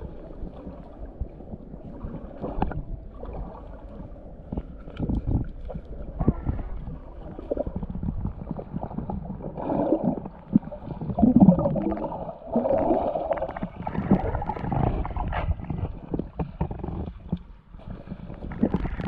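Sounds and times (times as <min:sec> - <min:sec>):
muffled underwater river water: 0:00.0 - 0:19.0
underwater knocks and clicks: 0:00.5 - 0:19.0.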